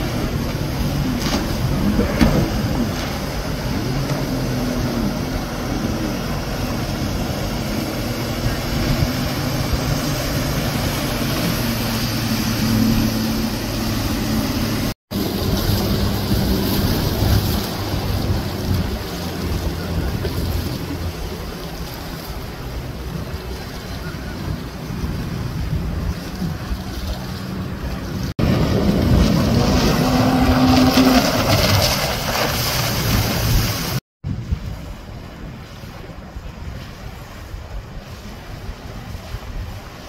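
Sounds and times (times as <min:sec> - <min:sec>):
outboard boat motors droning: 0:00.0 - 0:34.0, 0:34.6 - 0:40.0
jet ski engine: 0:00.0 - 0:40.0
water splashing: 0:00.0 - 0:40.0
wind buffeting microphone: 0:00.0 - 0:40.0.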